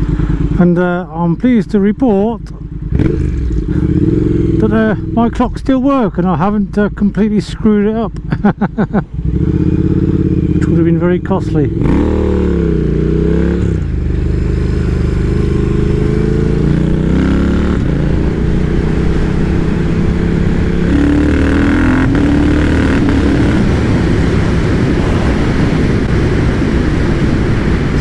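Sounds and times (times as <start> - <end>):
motorcycle engine revving: 0.0 - 7.0, 8.2 - 28.0
wind and road noise: 0.0 - 28.0.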